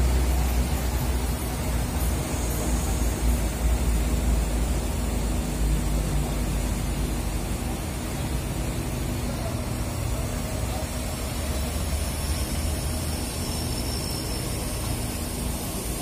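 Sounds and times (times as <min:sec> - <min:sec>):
diesel buses idling: 0:00.0 - 0:16.0.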